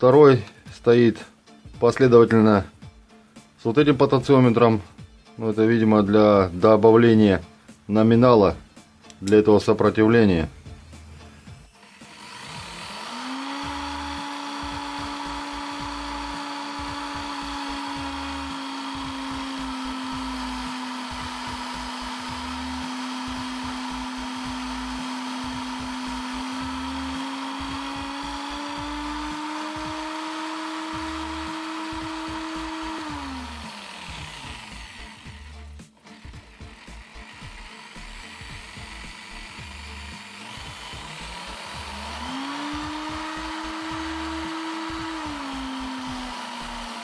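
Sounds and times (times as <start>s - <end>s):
drill motor spinning: 9.2s - 47.0s.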